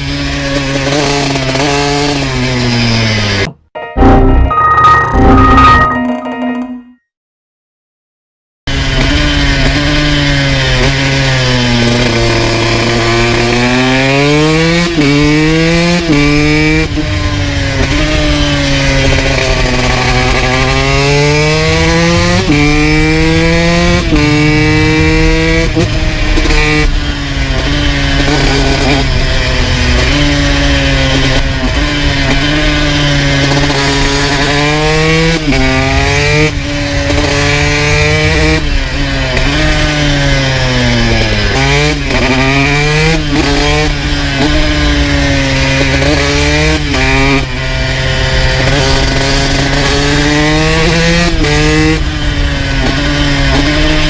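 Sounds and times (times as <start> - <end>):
motorcycle engine revving: 0.0 - 4.3, 8.7 - 54.0.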